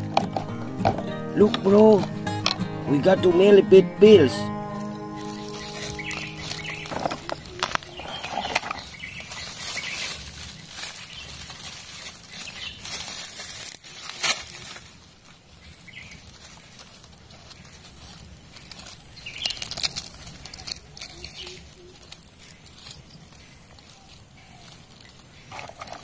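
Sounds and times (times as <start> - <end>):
leaf litter rustling: 5.1 - 26.0.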